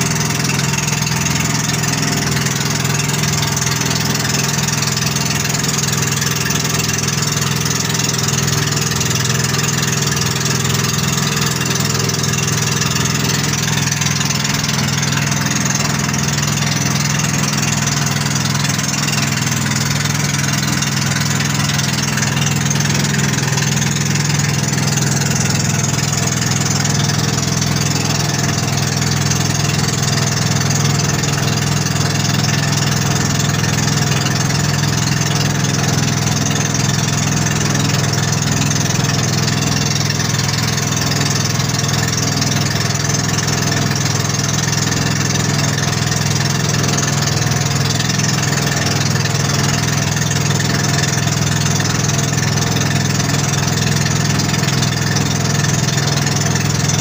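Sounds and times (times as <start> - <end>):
boat engine drone: 0.0 - 57.0
wind: 0.0 - 57.0.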